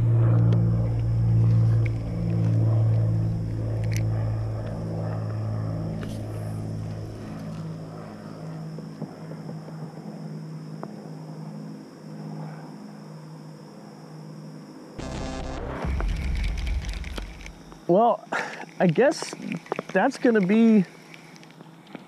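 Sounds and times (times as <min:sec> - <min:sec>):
distant engine drone: 0:00.0 - 0:22.0.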